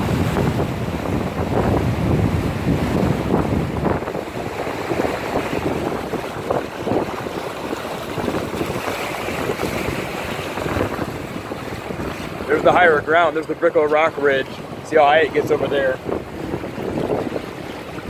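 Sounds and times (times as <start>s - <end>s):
cars driving through floodwater: 0.0s - 18.0s
water sloshing and splashing: 0.0s - 18.0s
wind buffeting microphone: 0.0s - 18.0s.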